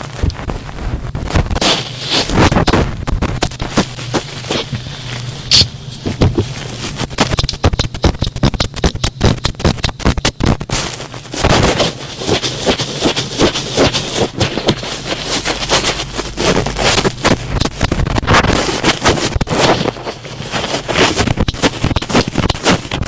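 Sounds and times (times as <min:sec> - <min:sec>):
cotton swab rubbing microphone: 0:00.0 - 0:23.0.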